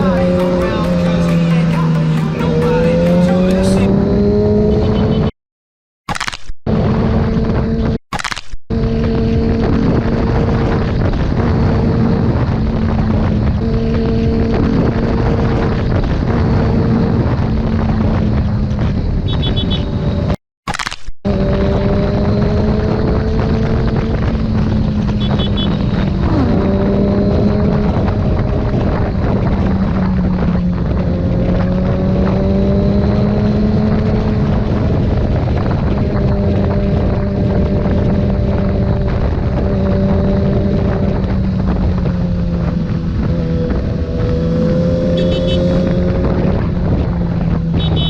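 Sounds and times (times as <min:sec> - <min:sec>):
wind on microphone: 0:00.0 - 0:05.3, 0:06.7 - 0:08.0, 0:08.7 - 0:20.4, 0:21.3 - 0:48.0
motorcycle engine revving high: 0:00.0 - 0:05.4, 0:06.7 - 0:08.0, 0:08.7 - 0:20.4, 0:21.3 - 0:48.0.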